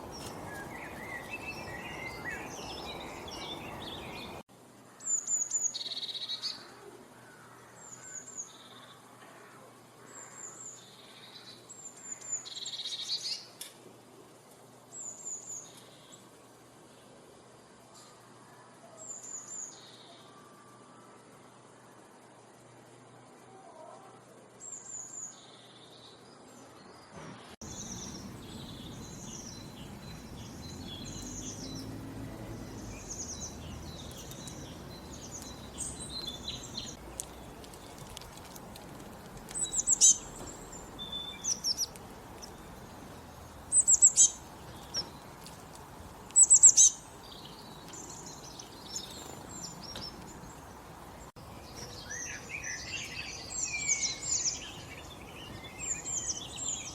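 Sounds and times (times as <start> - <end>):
songbirds chirping and singing: 0.0 - 13.5, 24.6 - 56.9
outdoor background hiss: 0.0 - 56.9.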